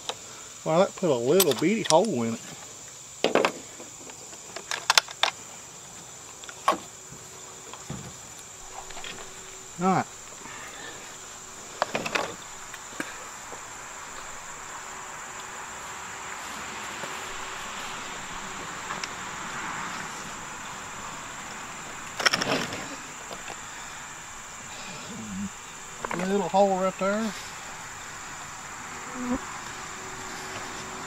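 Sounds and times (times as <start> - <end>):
insect chorus buzzing: 0.0 - 31.0.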